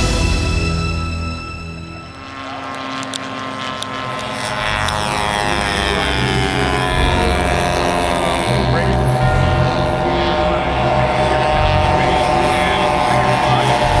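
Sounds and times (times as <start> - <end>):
model airplane engine flying past: 0.0 - 14.0.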